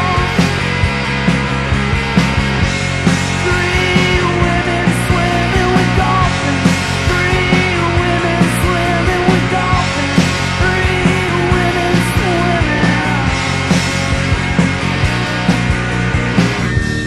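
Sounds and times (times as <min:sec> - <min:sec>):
punk rock band playing: 0:00.0 - 0:17.0.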